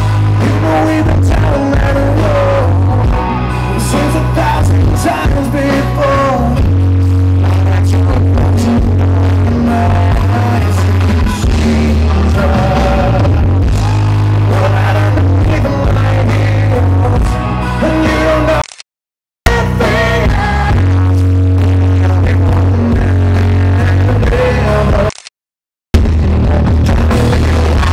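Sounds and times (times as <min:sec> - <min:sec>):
live rock band playing: 0:00.0 - 0:18.6, 0:19.5 - 0:25.1, 0:26.0 - 0:27.9.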